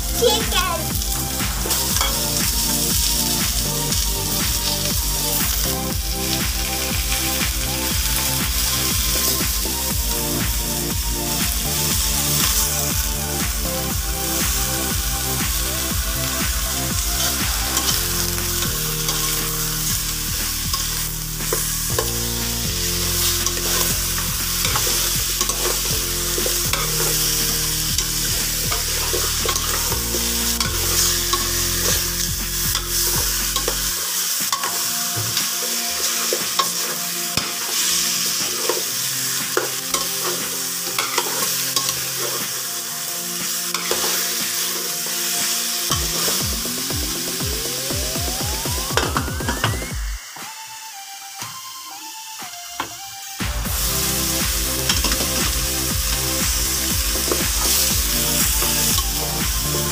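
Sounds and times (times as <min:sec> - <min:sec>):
chicken sizzling in a pot: 0:00.0 - 0:52.4, 0:53.4 - 0:59.9.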